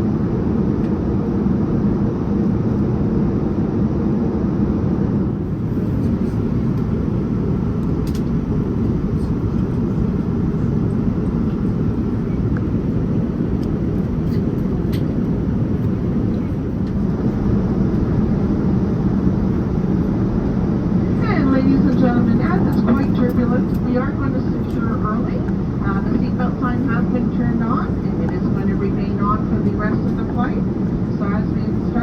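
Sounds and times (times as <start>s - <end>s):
airplane cabin engine rumble: 0.0s - 32.0s.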